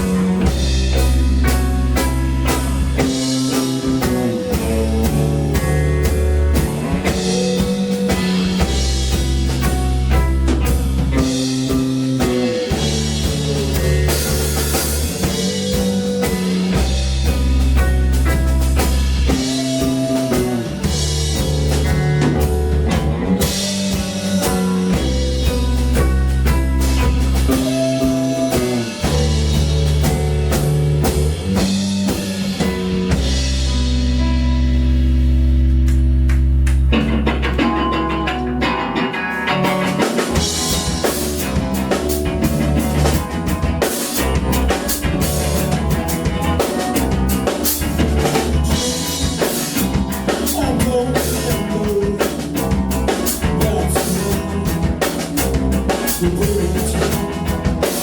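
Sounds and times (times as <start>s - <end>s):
rock band drums and guitar: 0.0s - 58.0s.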